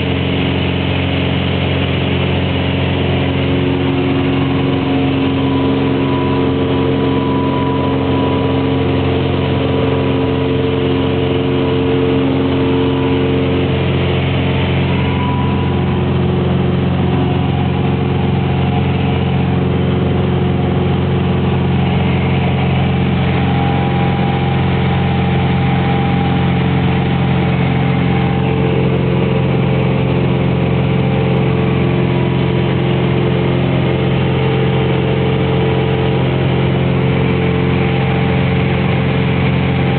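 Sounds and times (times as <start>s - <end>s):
propeller plane engine in cabin: 0.0s - 39.9s.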